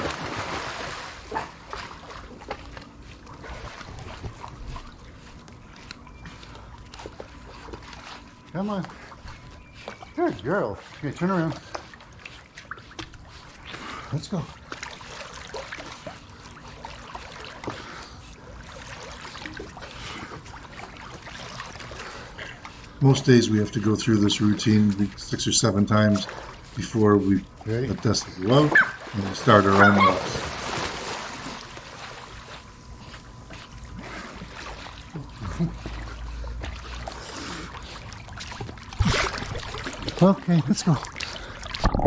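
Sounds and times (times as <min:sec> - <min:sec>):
pool water splashing and lapping: 0:00.0 - 0:42.0.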